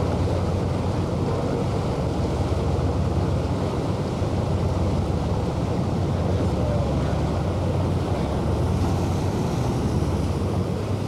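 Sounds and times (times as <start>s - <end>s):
boat engine drone: 0.0s - 11.0s
water along hull: 0.0s - 11.0s.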